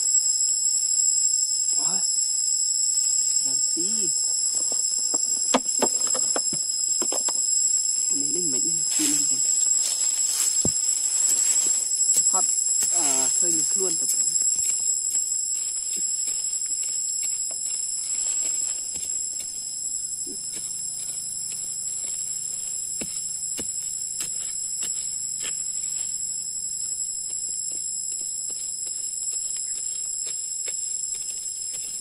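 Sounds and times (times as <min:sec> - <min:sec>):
high-pitched insect drone: 0:00.0 - 0:32.0.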